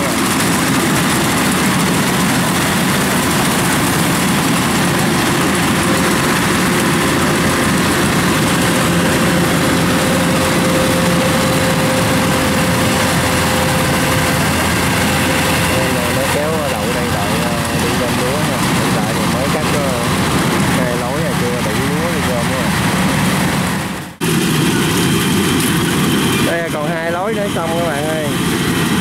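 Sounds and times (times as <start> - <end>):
combine harvester running: 0.0 - 29.0
steady high whine: 0.0 - 29.0.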